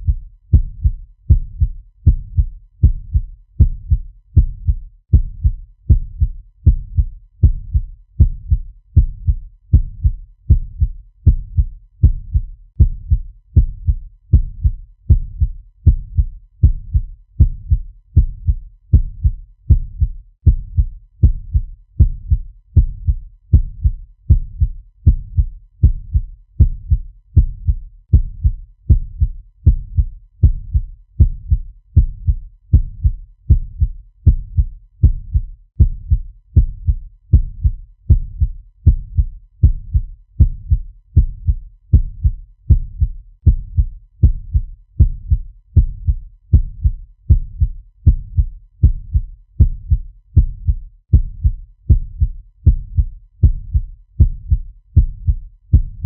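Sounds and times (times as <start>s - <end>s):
heartbeat low thuds: 0.0s - 56.0s.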